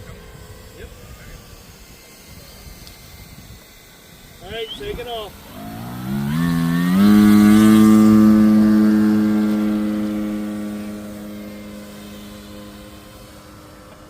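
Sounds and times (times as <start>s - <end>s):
model airplane motor and propeller drone: 0.0s - 14.0s.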